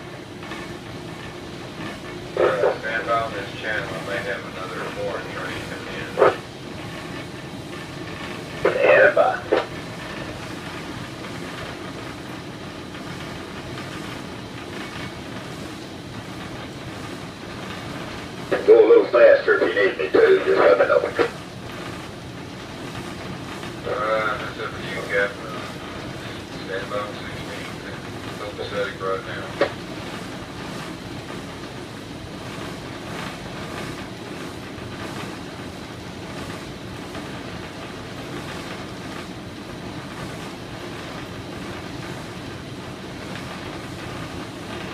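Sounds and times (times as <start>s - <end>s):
boat engine running: 0.0s - 44.9s
heavy machinery rumbling: 0.0s - 44.9s.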